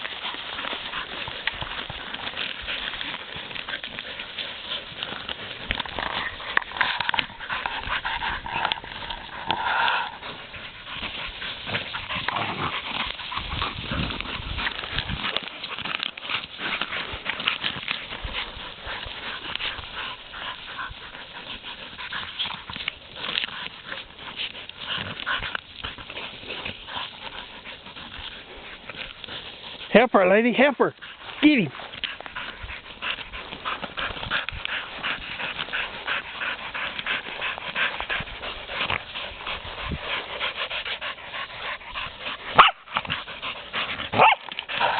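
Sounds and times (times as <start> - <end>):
dogs panting and whining: 0.0 - 44.9
scratching and rustling: 0.0 - 44.9.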